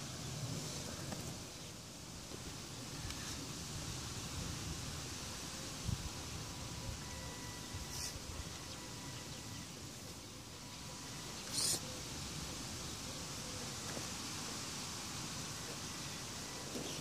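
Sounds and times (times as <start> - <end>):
outdoor hiss: 0.0 - 17.0.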